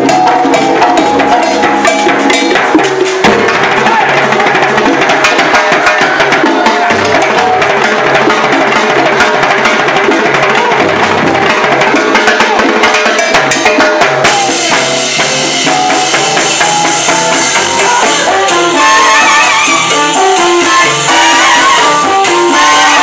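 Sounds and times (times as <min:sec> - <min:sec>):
live salsa band: 0:00.0 - 0:23.0.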